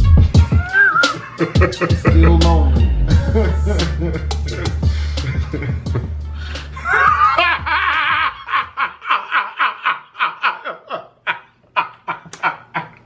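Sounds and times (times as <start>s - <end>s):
man laughing hard: 0.5s - 13.0s.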